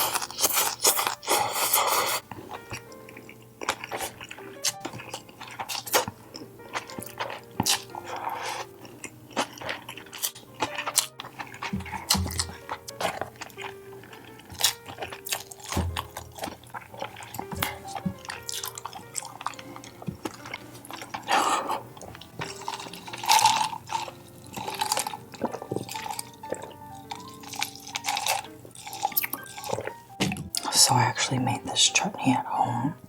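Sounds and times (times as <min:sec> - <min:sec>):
wet chewing and lip-smacking: 0:00.0 - 0:30.7
soft background music: 0:00.0 - 0:33.0.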